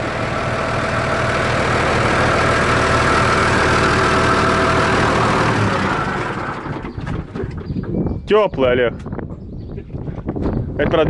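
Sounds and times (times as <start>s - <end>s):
tractor diesel engine idling: 0.0s - 8.9s.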